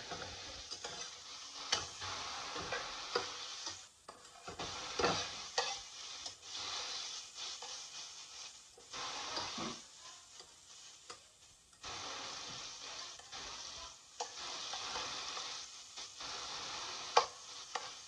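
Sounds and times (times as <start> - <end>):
spatula scraping a pan: 0.0 - 11.2, 11.8 - 18.0
food sizzling in oil: 0.0 - 18.0.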